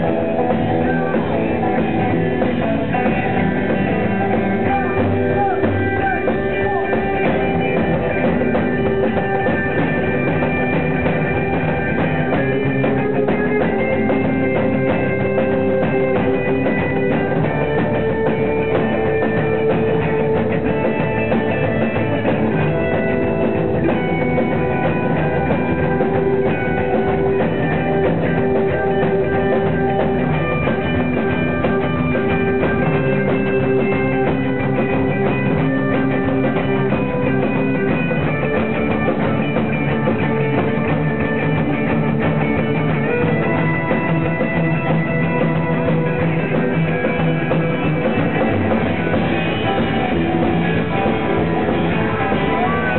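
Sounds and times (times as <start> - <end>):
drum kit: 0.0 - 52.9
electric guitars: 0.0 - 52.9
rockabilly band playing: 0.0 - 52.9
upright double bass: 0.0 - 52.9.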